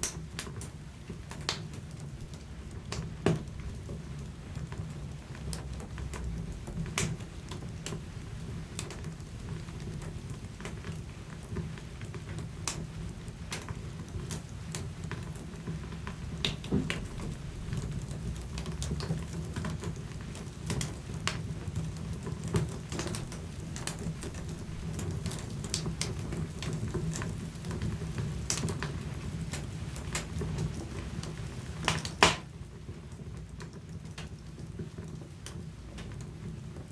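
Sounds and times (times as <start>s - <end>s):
fire crackles and pops: 0.0s - 36.9s.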